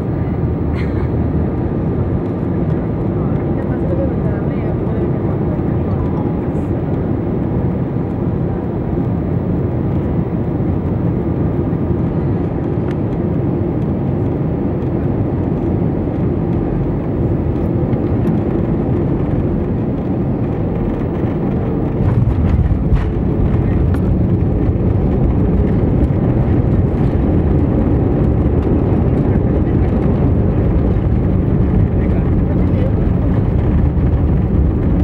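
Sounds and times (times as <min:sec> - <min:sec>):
jet engines and rushing air in cabin: 0:00.0 - 0:35.0.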